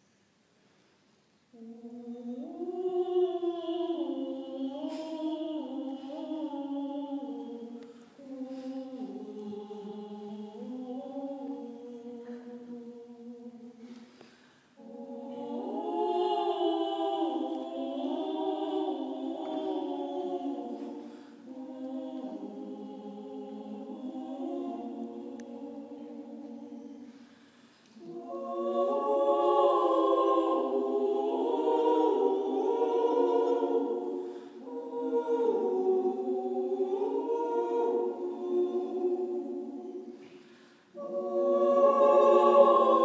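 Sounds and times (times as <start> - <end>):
women's choir singing in harmony: 1.5 - 43.0.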